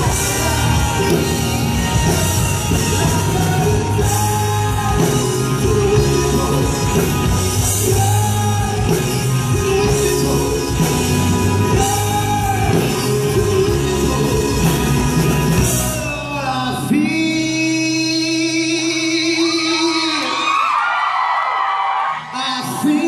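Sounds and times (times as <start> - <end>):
rock band playing: 0.0 - 19.0
person singing: 0.0 - 20.4.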